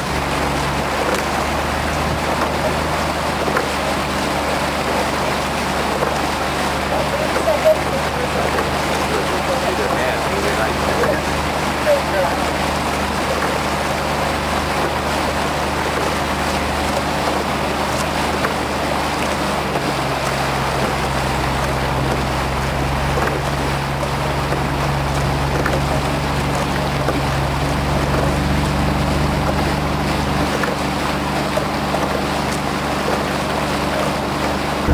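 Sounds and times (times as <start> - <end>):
outboard motor running: 0.0 - 34.9
water noise: 0.0 - 34.9
wind: 0.0 - 34.9.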